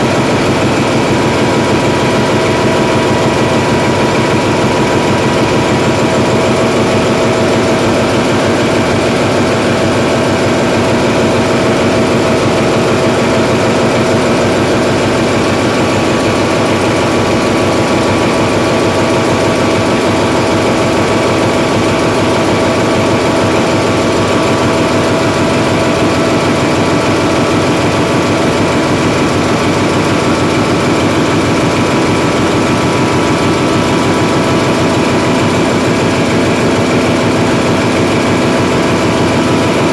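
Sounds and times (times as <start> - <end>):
diesel generator engine drone: 0.0 - 39.9.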